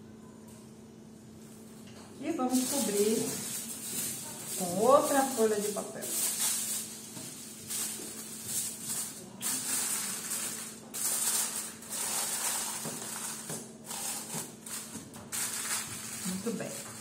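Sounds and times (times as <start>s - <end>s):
aluminium foil crinkling: 2.3s - 17.0s.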